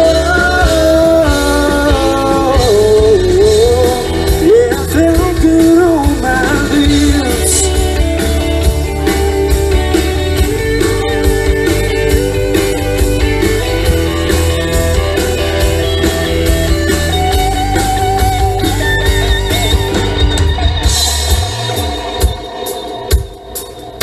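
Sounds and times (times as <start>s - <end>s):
bass guitar: 0.0s - 24.0s
drum kit steady beat: 0.0s - 24.0s
electric guitars: 0.0s - 24.0s.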